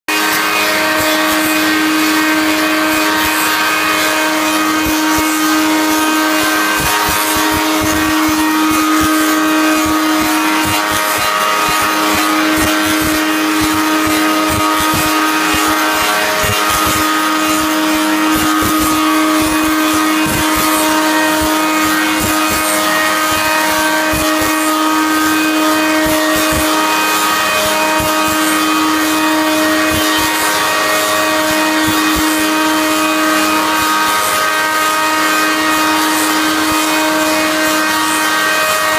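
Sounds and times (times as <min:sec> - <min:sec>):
lathe machine hum: 0:00.1 - 0:38.9.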